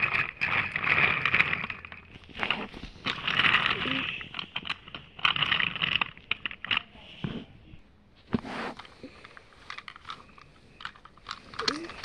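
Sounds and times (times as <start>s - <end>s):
toy train rattling on plastic track: 0.0s - 7.4s, 8.6s - 12.0s.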